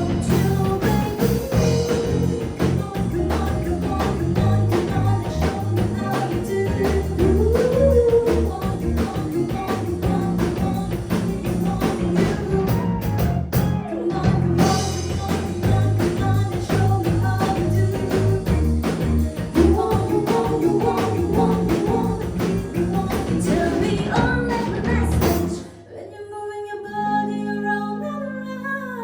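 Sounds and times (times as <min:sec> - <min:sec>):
drum kit steady beat: 0:00.0 - 0:25.7
electric guitar: 0:00.0 - 0:25.8
bass: 0:00.0 - 0:25.9
piano: 0:00.0 - 0:25.9.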